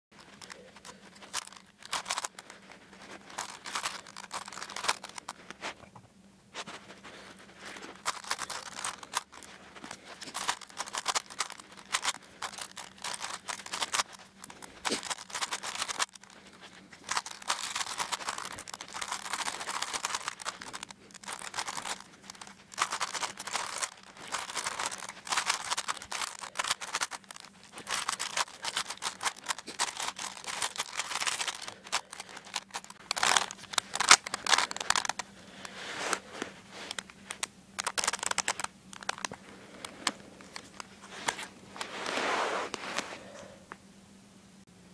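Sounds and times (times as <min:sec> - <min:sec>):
puzzle cube clicking: 0:00.2 - 0:05.5, 0:07.7 - 0:35.3, 0:36.8 - 0:41.5.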